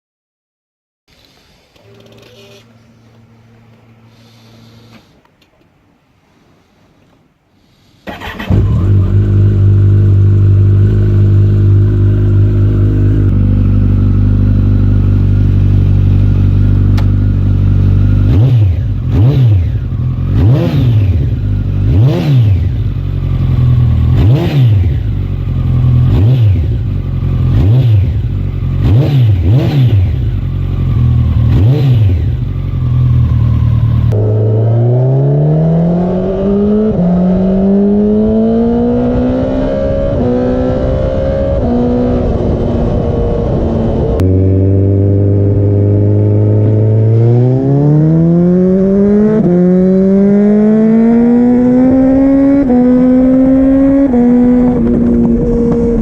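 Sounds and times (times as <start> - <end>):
motorcycle accelerating through gears: 8.1 - 56.0
motorcycle engine revving: 8.1 - 56.0.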